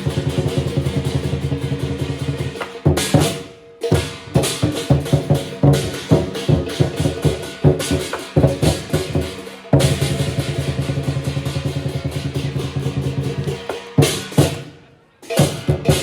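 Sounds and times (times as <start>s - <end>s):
big drum beating fast: 0.0s - 14.7s, 15.4s - 16.0s
ringing cymbals: 0.0s - 16.0s.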